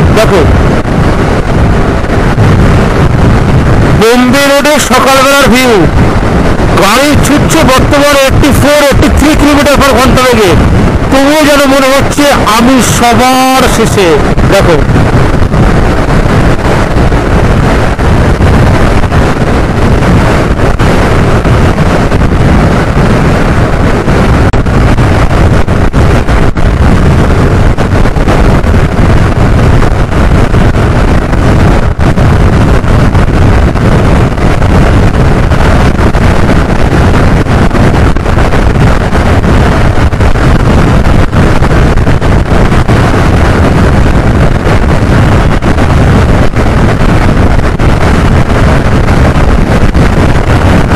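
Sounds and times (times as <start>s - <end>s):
road and motor noise: 0.0s - 50.9s
wind buffeting microphone: 0.0s - 50.9s.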